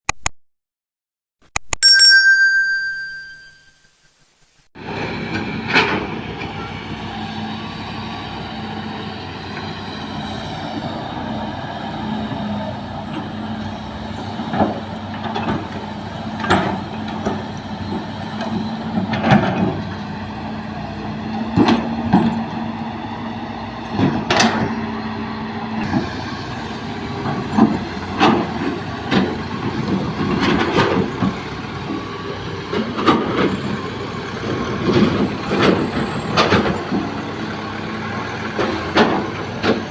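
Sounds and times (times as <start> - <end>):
excavator diesel engine running: 4.8 - 39.9.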